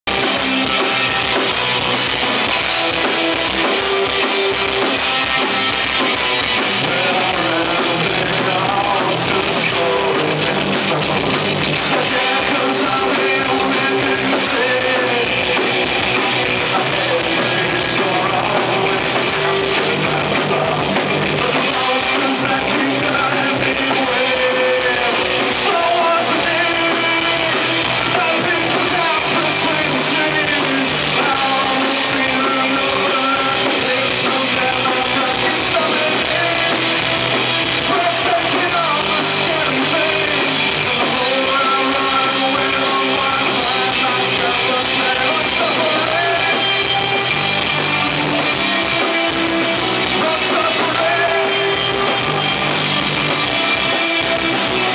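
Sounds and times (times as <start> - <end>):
drum kit: 0.0 - 54.9
electric bass: 0.0 - 54.9
electric guitars: 0.0 - 54.9
man singing: 6.5 - 47.6, 48.3 - 52.7.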